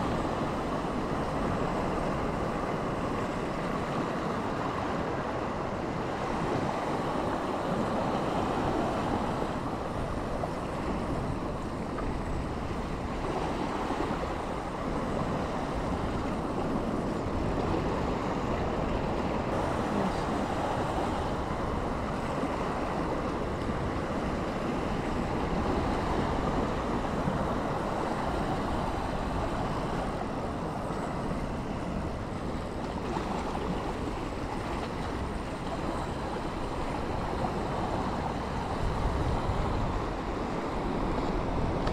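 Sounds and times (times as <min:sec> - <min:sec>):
sea waves: 0:00.0 - 0:41.9
wind buffeting microphone: 0:00.0 - 0:41.9.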